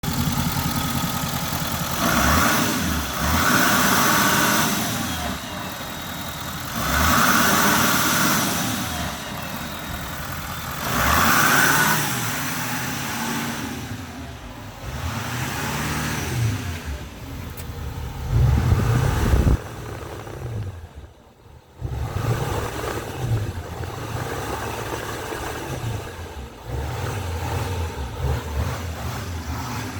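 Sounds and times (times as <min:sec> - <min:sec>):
engine revving: 0:00.0 - 0:29.9.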